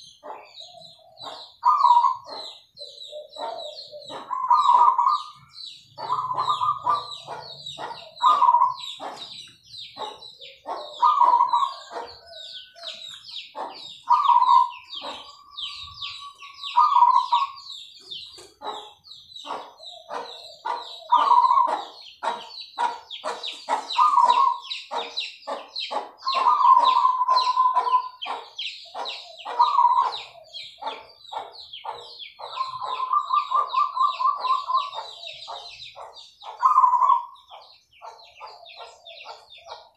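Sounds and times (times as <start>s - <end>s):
doves cooing: 0.0s - 39.9s
high bird chirps: 0.0s - 39.9s.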